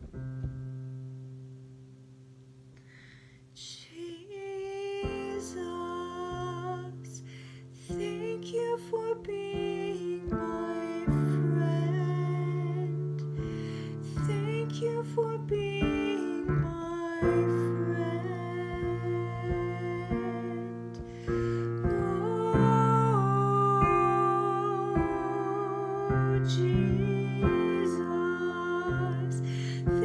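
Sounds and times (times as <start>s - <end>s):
piano chords: 0.0s - 2.7s, 4.0s - 30.0s
woman singing worship song: 3.5s - 30.0s.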